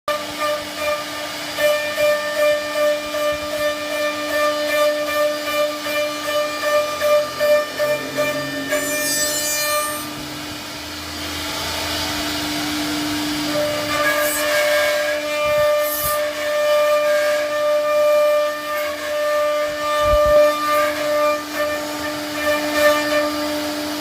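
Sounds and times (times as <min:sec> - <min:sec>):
bit cutting wood: 0:00.1 - 0:12.7, 0:13.4 - 0:23.6
router spindle whine: 0:00.1 - 0:24.0.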